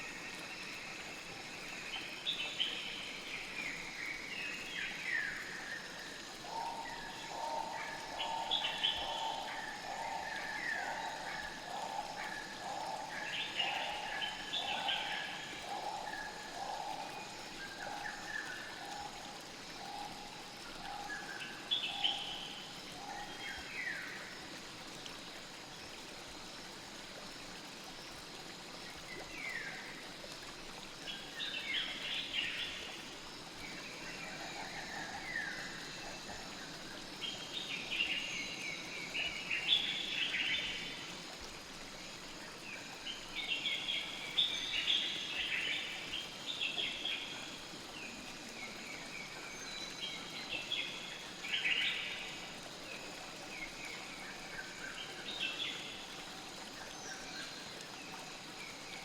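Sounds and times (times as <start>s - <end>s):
flowing water hiss: 0.0s - 59.0s.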